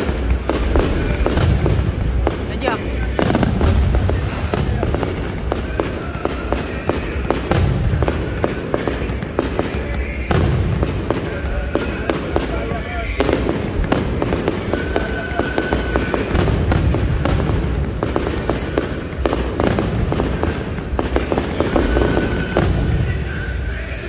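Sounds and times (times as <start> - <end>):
heavy firework booms: 0.0 - 23.6
fireworks bangs and crackling: 0.0 - 24.0.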